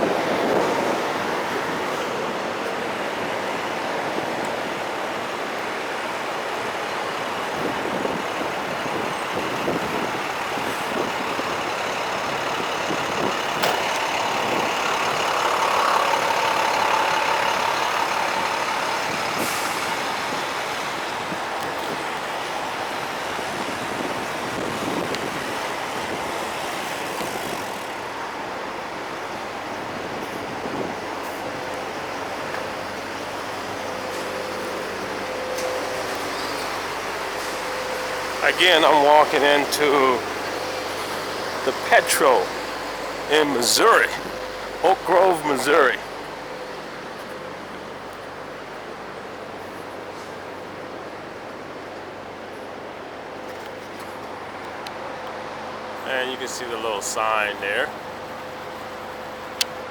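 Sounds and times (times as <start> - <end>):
heavy trucks running: 0.0 - 59.9.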